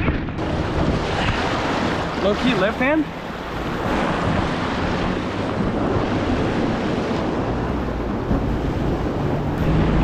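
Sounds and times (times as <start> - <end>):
rushing water: 0.0 - 10.0
wind buffeting microphone: 0.0 - 10.0.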